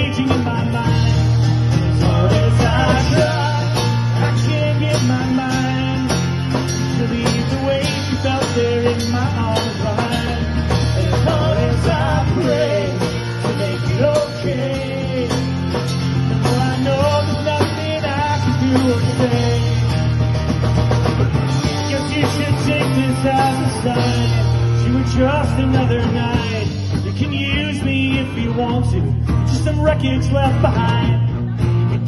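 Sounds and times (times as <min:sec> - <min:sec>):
bass guitar: 0:00.0 - 0:32.0
drum kit: 0:00.0 - 0:32.0
strummed guitars: 0:00.0 - 0:32.0.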